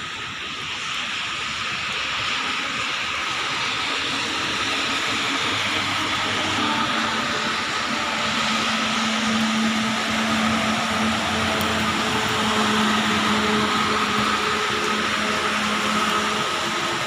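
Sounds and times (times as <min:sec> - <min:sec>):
heavy rain falling: 0:00.1 - 0:17.0.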